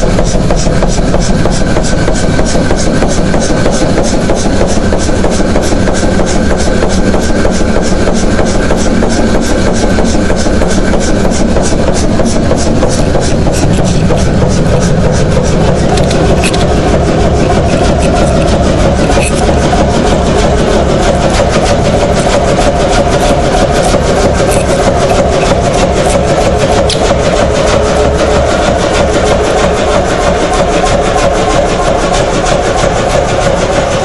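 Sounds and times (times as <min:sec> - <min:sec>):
engine running with rapid beat: 0:00.0 - 0:34.0.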